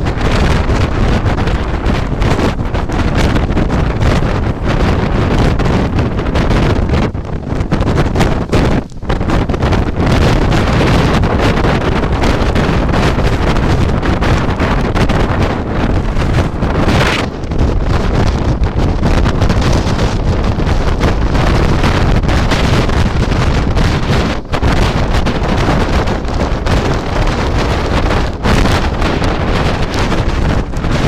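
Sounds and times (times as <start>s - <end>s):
strong wind on microphone: 0.0s - 31.0s.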